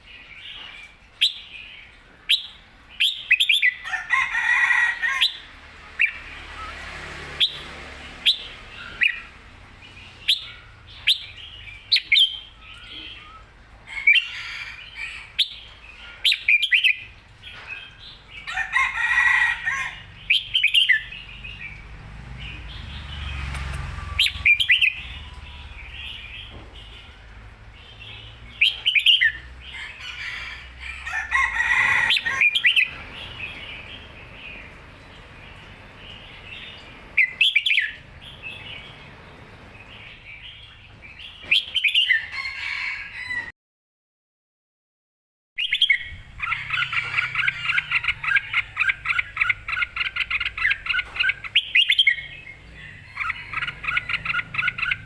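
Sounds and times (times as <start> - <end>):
bird chirping: 0.0 - 42.4, 45.6 - 55.0.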